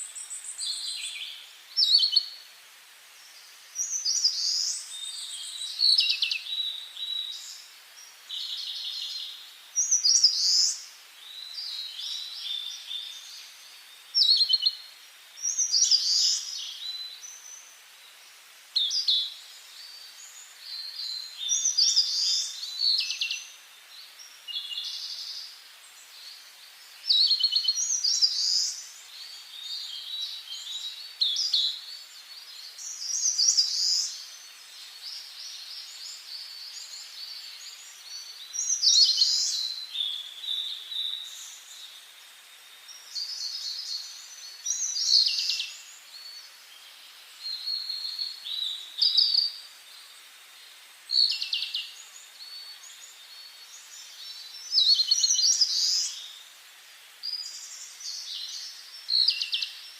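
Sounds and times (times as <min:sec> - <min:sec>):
faint steady hiss: 0:00.0 - 0:59.9
songbirds singing: 0:00.0 - 0:59.9.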